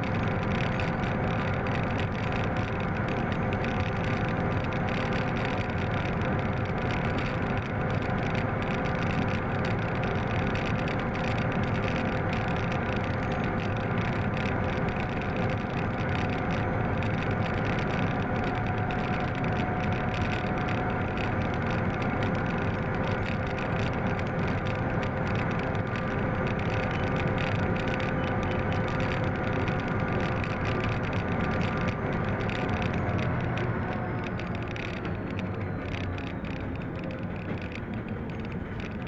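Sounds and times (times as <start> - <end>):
locomotive engine running: 0.0 - 39.0.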